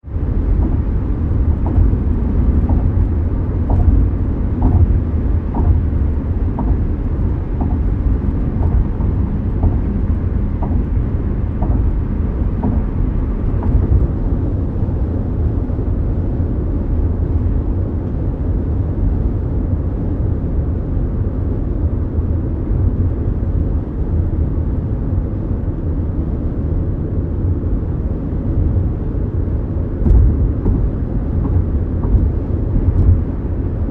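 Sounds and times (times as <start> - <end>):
engine and road noise rumble: 0.0 - 33.9.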